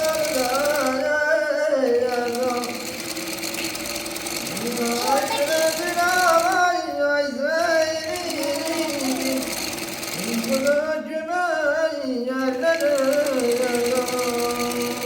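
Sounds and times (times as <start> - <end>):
man singing slow melody: 0.0 - 3.0, 4.5 - 15.0
sewing machine running: 0.0 - 15.0.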